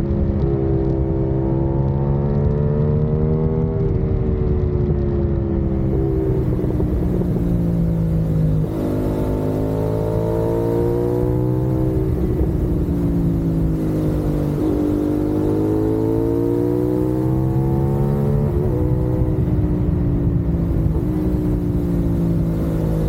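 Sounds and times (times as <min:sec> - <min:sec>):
motorcycle engine accelerating: 0:00.0 - 0:23.0
wind noise on microphone: 0:00.0 - 0:23.0.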